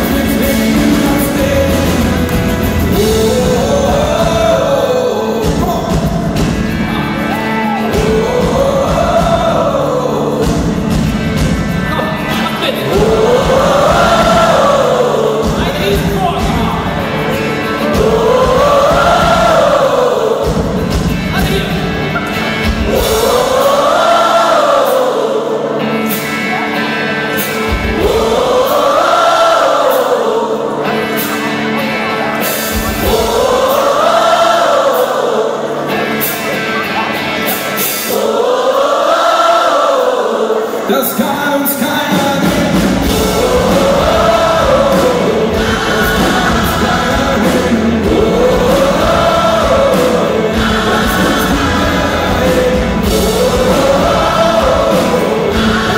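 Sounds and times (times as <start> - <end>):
gospel choir singing: 0.0 - 55.9
rock band playing: 0.0 - 55.9.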